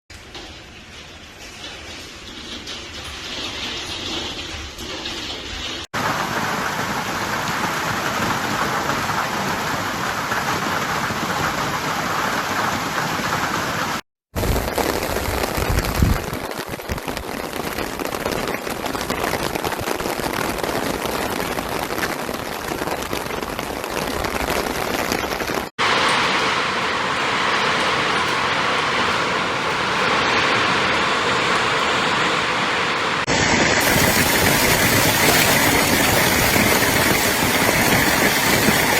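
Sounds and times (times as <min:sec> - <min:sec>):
heavy hail and rain: 0:00.3 - 0:38.9.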